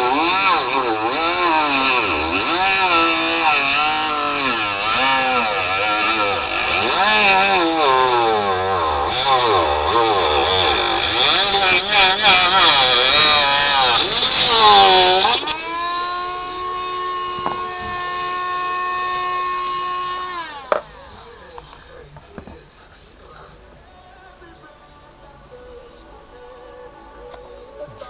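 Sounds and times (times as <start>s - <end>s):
milling machine whining: 0.0s - 23.9s.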